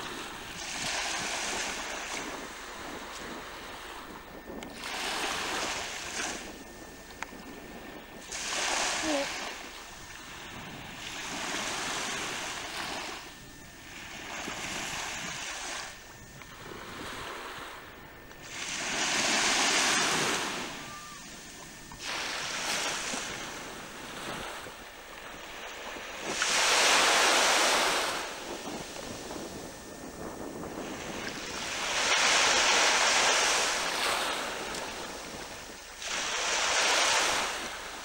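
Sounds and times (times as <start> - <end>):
sea water rushing: 0.0 - 38.0
wind on microphone: 0.0 - 38.0.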